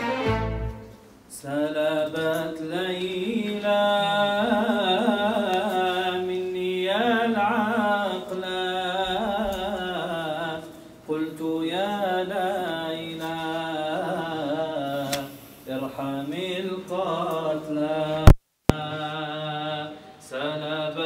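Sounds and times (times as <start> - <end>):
man singing devotional song: 1.3 - 21.0.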